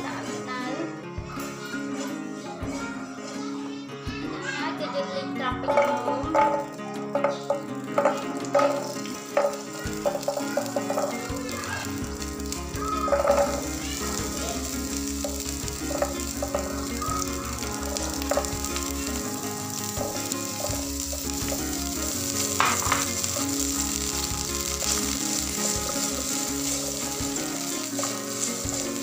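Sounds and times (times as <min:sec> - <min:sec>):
vegetables frying in a wok: 0:05.7 - 0:29.0.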